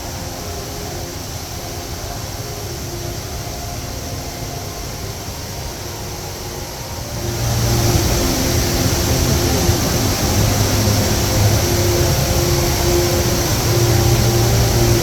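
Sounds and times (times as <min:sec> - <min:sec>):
faint steady tones: 0:00.0 - 0:15.0
steady rushing noise: 0:00.0 - 0:15.0.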